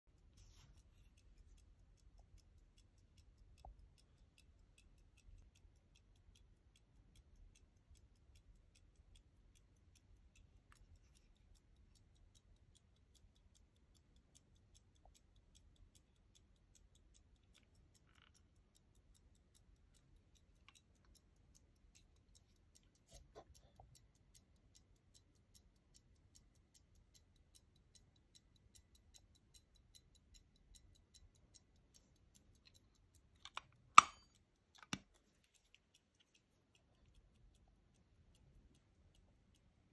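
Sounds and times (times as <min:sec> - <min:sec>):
pocket watch ticking faintly: 0:00.0 - 0:39.9.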